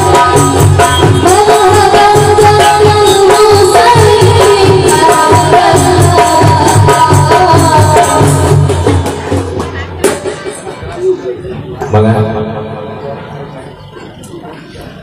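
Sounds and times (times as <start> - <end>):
drum beat and percussion: 0.0 - 15.0.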